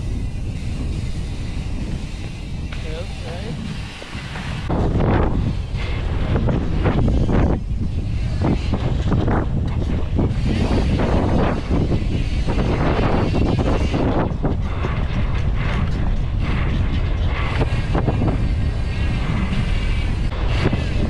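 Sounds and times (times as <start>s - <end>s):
bicycle clicks and rattles: 0.0s - 21.0s
tyre and road rumble: 0.0s - 21.0s
wind buffeting microphone: 0.0s - 21.0s.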